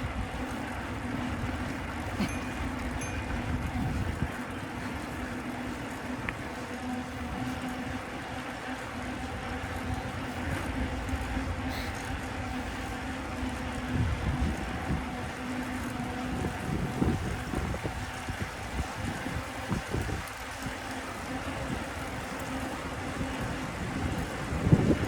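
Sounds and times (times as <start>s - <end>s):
steady low hum: 0.0s - 25.0s
wind rumbling on microphone: 0.0s - 25.0s.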